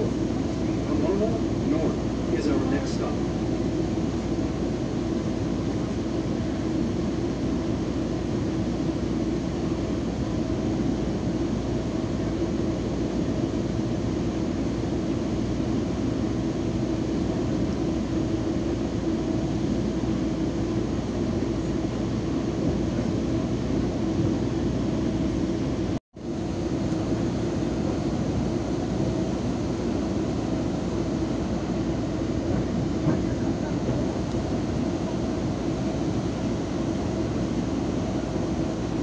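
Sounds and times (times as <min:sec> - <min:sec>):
train running noise: 0:00.0 - 0:10.0, 0:13.0 - 0:39.0.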